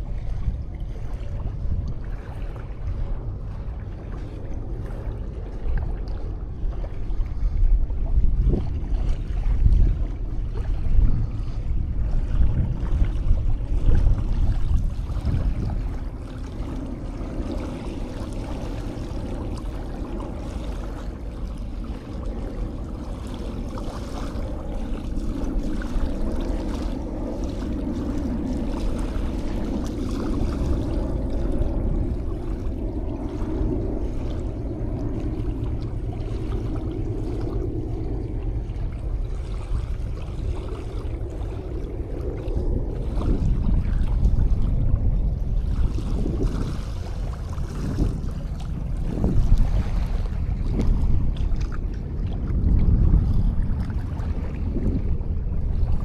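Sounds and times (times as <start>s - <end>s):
sea waves washing onto beach: 0.0s - 56.0s.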